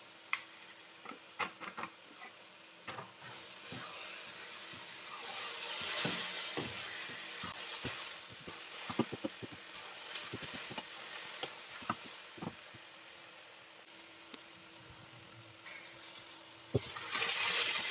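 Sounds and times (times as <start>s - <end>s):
food sizzling: 2.4s - 17.9s.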